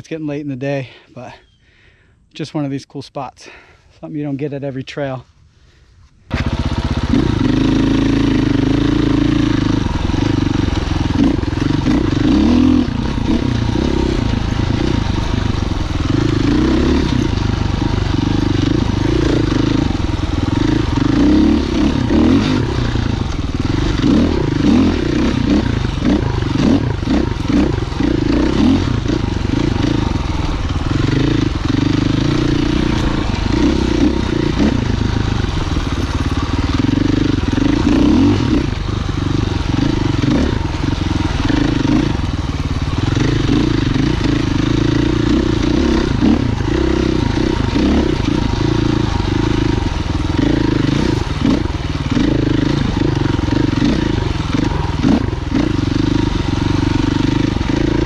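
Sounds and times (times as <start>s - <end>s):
motorcycle engine revving: 6.3s - 58.0s.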